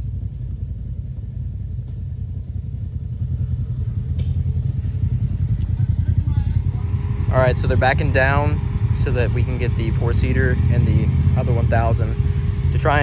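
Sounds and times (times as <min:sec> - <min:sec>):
off-road vehicle engine rumbling: 0:00.0 - 0:13.0.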